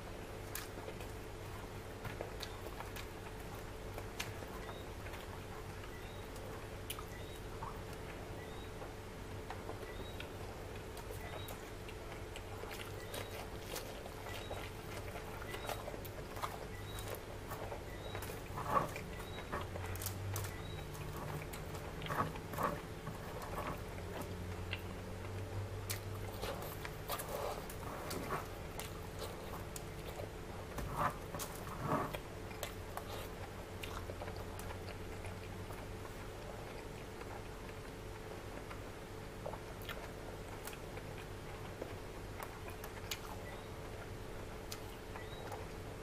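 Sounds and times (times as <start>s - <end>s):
steady low hum: 0.0s - 46.0s
chewing with wet mouth clicks: 0.2s - 46.0s.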